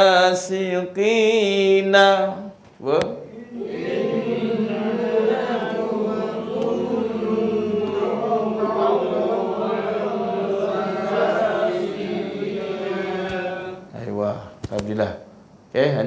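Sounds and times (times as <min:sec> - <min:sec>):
person chanting verses: 0:00.0 - 0:14.6.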